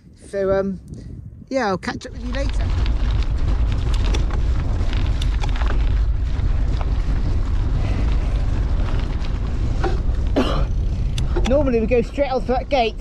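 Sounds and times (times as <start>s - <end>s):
wind buffeting microphone: 0.0s - 13.0s
sharp clicks and rattles: 2.0s - 13.0s
bike tyres crunching on stones: 2.1s - 13.0s.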